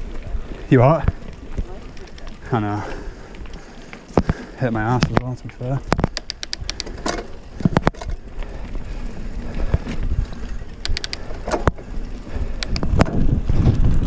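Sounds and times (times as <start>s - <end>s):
tyres crunching over gravel: 0.0s - 12.6s
bike clicks and rattles: 0.0s - 14.0s.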